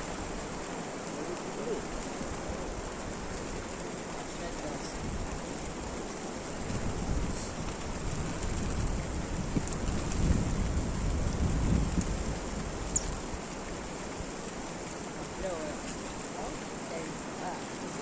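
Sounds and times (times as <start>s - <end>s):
rain hiss: 0.0s - 18.0s
raindrop ticks: 0.2s - 17.6s.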